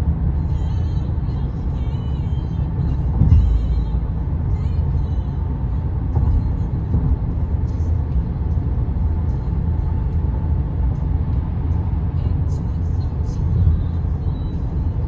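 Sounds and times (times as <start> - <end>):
tyres rumbling on road: 0.0 - 15.0.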